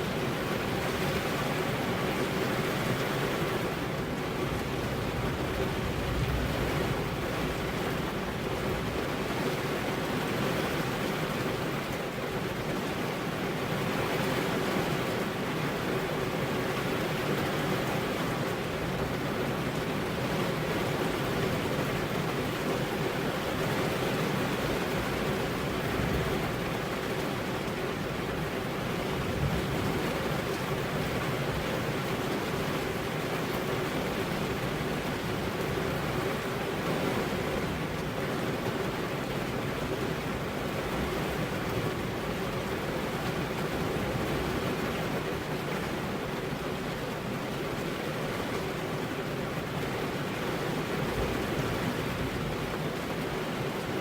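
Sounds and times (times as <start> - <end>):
rain on car window: 0.0 - 54.0.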